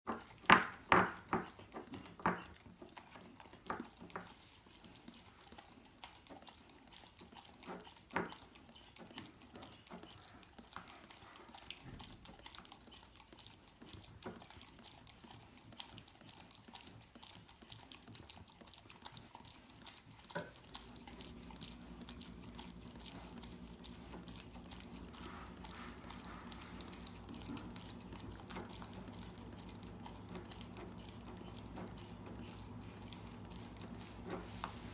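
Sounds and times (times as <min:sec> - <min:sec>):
dog licking and smacking mouth: 0:00.1 - 0:34.9.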